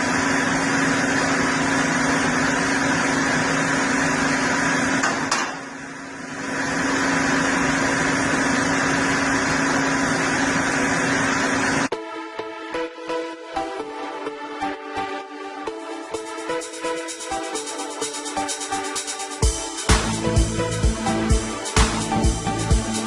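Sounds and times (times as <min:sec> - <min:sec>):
machine humming: 0:00.0 - 0:11.9, 0:13.6 - 0:23.0.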